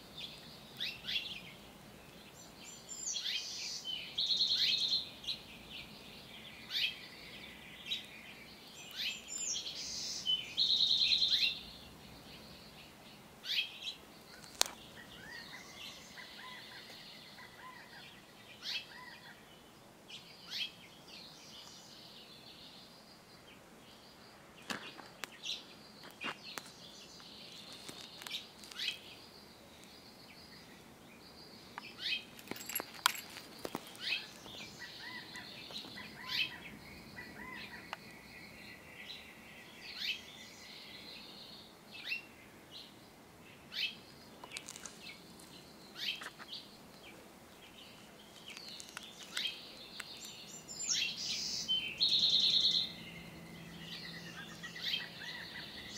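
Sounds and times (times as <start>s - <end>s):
outdoor background noise: 0.0s - 55.9s
small birds chirping: 0.0s - 55.9s.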